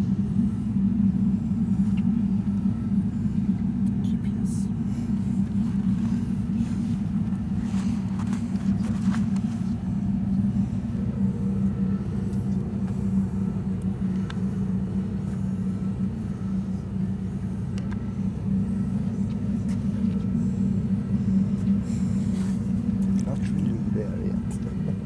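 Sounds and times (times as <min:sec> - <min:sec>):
low machinery drone: 0:00.0 - 0:25.0.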